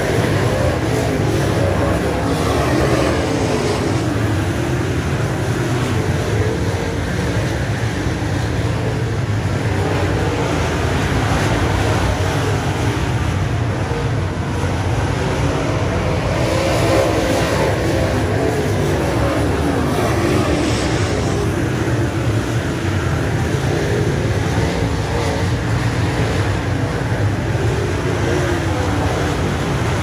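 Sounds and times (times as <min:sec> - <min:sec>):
race car engines roaring: 0:00.0 - 0:30.0.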